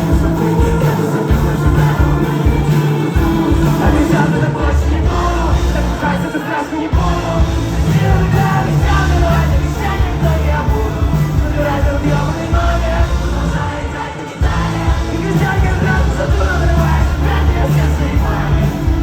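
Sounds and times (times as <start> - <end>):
loud bass: 0.0 - 6.3, 7.0 - 19.0
drums: 0.0 - 19.0
electric guitars: 0.0 - 19.0
person singing: 0.0 - 19.0.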